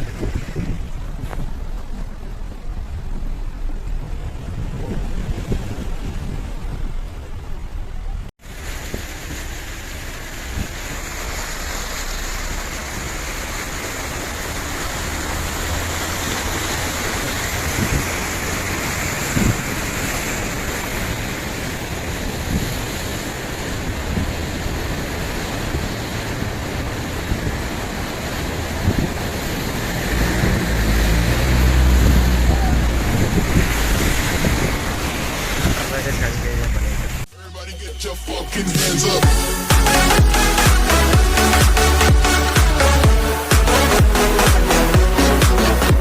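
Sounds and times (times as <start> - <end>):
heavy rain falling: 8.4 - 46.0.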